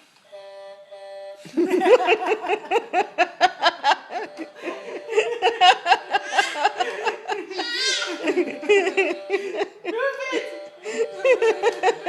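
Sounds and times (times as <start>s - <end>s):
person laughing: 1.4s - 12.0s.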